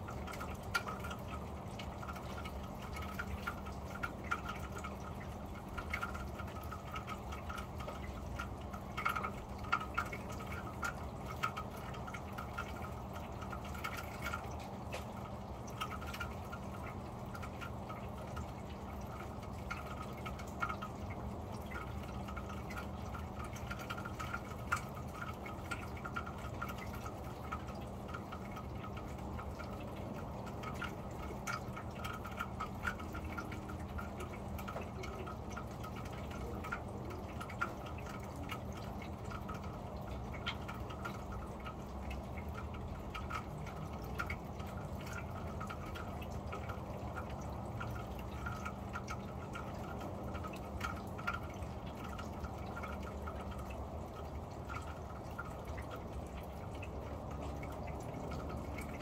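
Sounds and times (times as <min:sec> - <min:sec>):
rain on a metal roof: 0:00.0 - 0:59.0.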